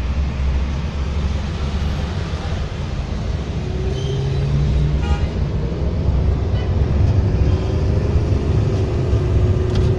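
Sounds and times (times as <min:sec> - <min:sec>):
vehicle engine and road rumble: 0:00.0 - 0:09.9.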